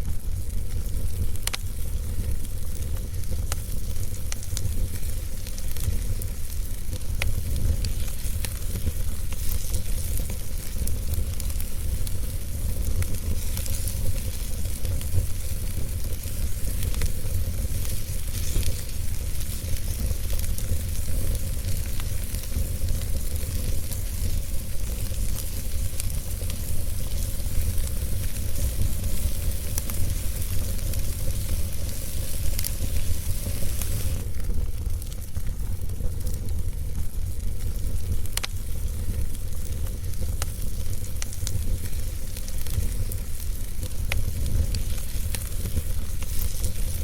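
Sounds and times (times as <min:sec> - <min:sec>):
fire crackling and popping: 0:00.0 - 0:47.0
fire rumbling and hissing: 0:00.0 - 0:47.0.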